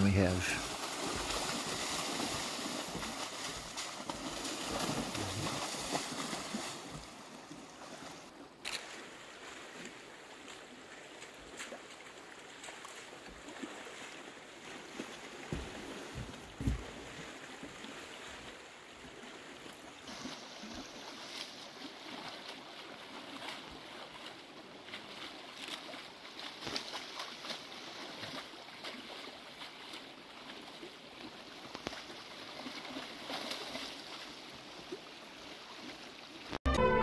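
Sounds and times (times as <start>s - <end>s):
creek water running: 0.0s - 37.0s.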